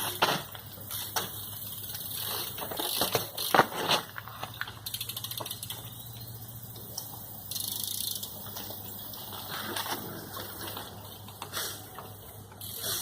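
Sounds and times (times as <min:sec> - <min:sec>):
bike hub clicking: 0:00.0 - 0:13.0
tyres rolling: 0:00.0 - 0:13.0.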